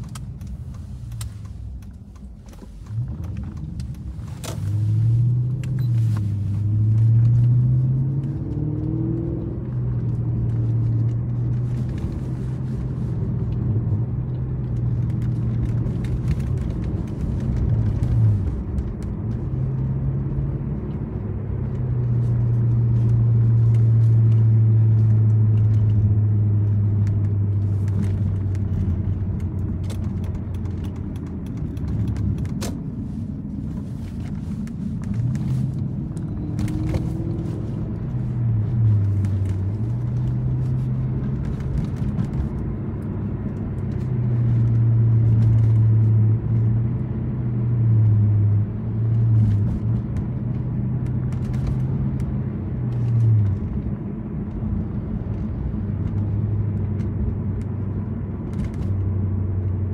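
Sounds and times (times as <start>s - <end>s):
car engine drone: 0.0s - 59.9s
tyre and road rumble: 0.0s - 59.9s.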